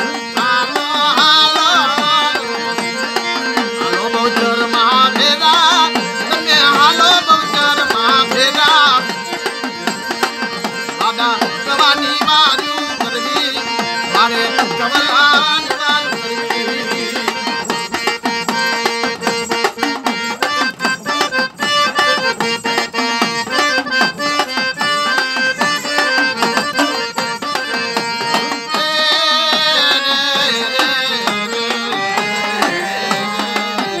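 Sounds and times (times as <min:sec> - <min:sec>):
harmonium playing a melody: 0:00.0 - 0:34.0.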